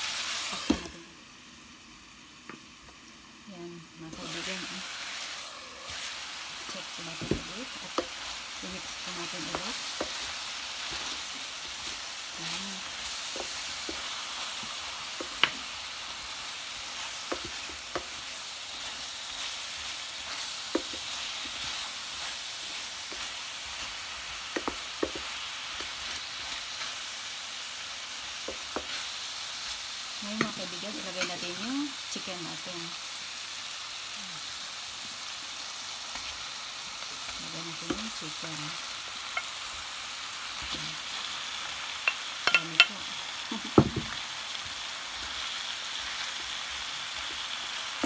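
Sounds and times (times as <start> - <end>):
meat sizzling in a frying pan: 0.0 - 48.0.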